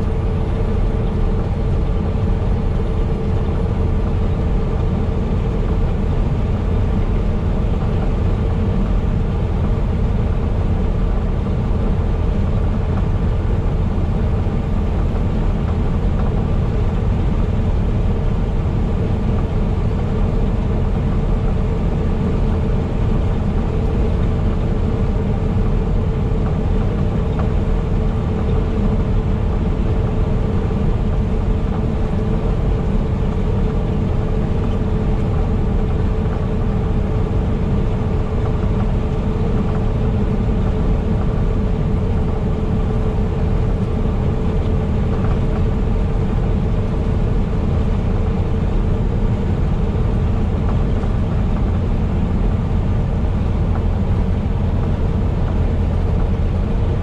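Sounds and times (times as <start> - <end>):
road rumble: 0.0 - 57.0
truck engine drone: 0.0 - 57.0.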